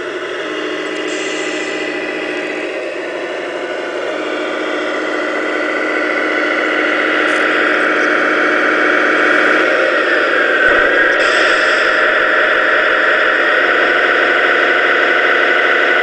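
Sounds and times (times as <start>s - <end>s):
toy truck engine sound: 0.0s - 16.0s.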